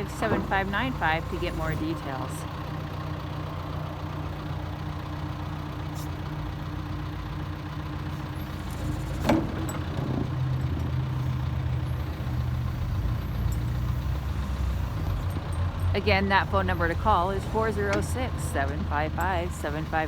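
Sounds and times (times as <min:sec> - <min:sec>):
backhoe diesel engine idling: 0:00.0 - 0:20.0.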